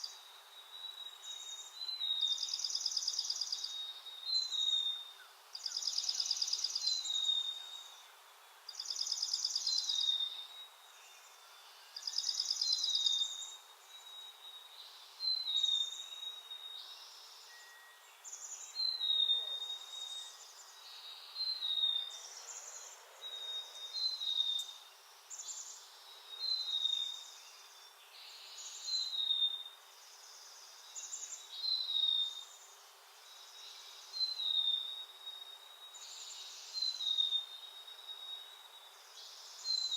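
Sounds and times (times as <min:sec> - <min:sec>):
faint steady hiss: 0:00.0 - 0:39.9
songbirds singing buzzy trills: 0:00.0 - 0:39.9.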